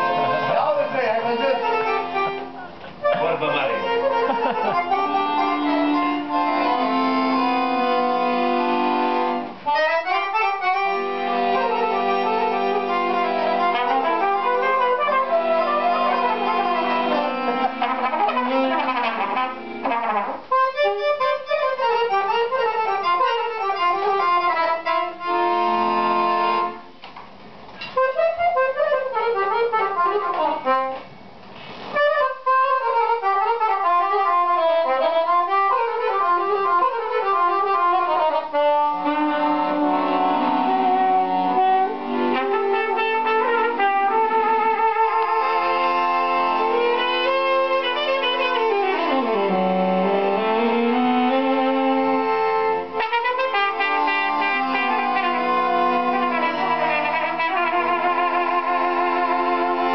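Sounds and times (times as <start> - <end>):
accordion saxophone and trumpet band: 0.0 - 27.0, 27.8 - 31.1, 31.8 - 59.9.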